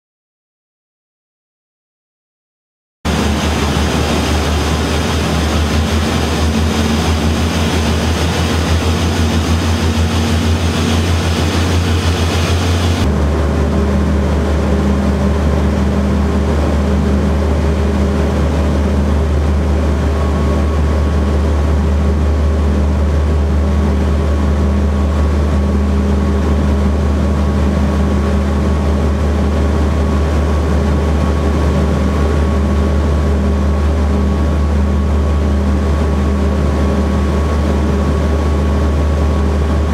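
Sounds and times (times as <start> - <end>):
aircraft engine drone in cabin: 3.1 - 39.9.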